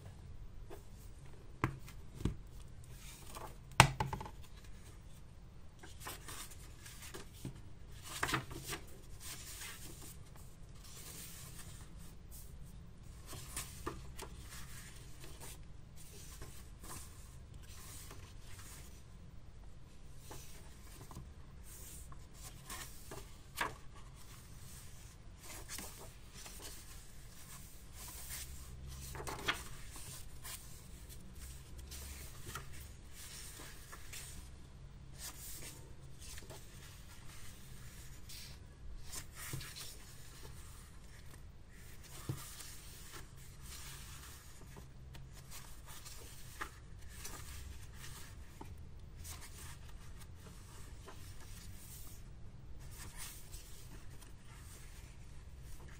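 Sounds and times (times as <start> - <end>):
paper pages rustling: 5.8 - 12.5, 13.1 - 19.0, 20.2 - 34.5, 35.1 - 52.2, 52.8 - 55.9.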